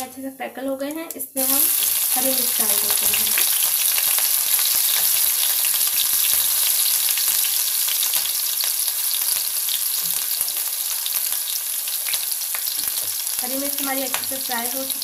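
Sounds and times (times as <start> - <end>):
chillies sizzling in hot oil: 1.1 - 15.0.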